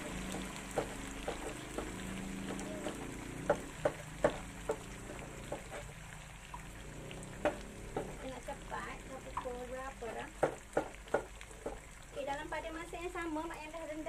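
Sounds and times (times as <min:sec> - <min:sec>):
food sizzling in oil: 0:00.0 - 0:14.0
oil popping: 0:00.0 - 0:14.0.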